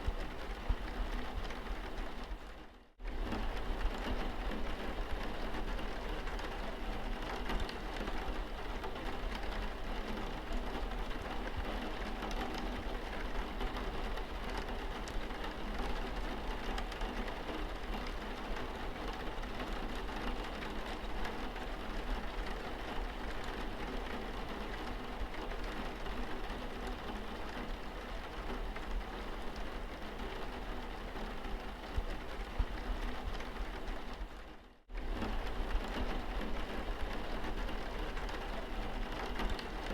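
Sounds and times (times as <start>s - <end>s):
rain on car windscreen: 0.0s - 39.9s.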